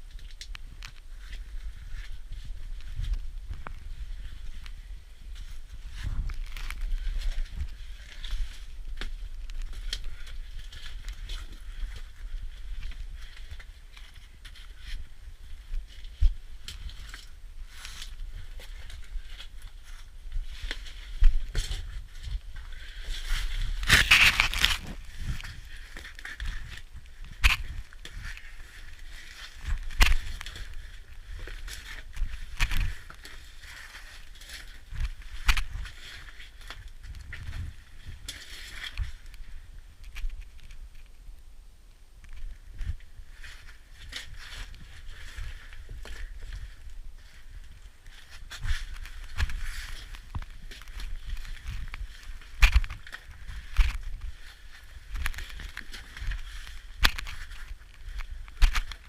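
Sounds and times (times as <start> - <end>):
knocks and crunching scrapes: 0.0 - 41.2, 42.2 - 59.0.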